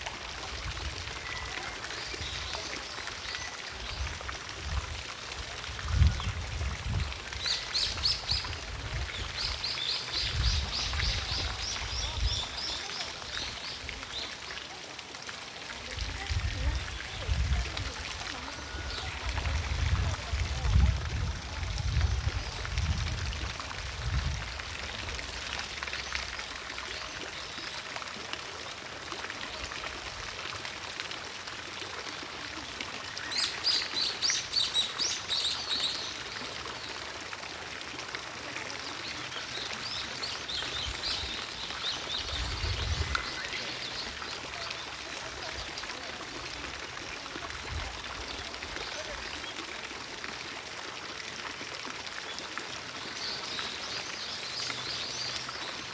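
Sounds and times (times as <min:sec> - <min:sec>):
fountain water rushing: 0:00.0 - 0:55.9.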